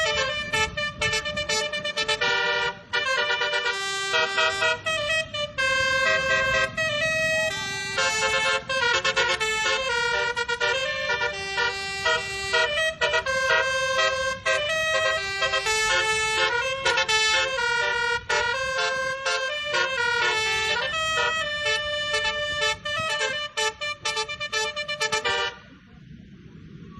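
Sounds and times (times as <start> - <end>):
multi-tone bus horn melody: 0.0 - 25.7.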